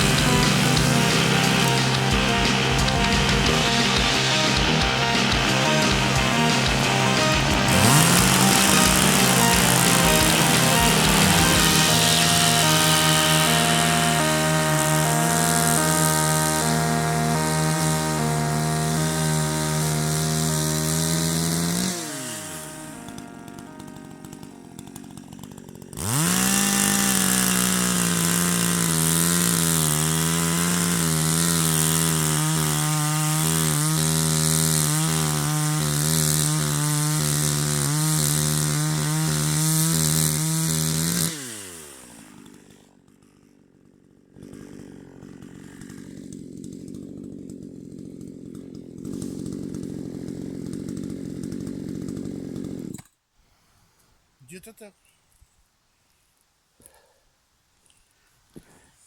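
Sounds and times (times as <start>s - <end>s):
chainsaw engine revving: 0.0s - 53.1s.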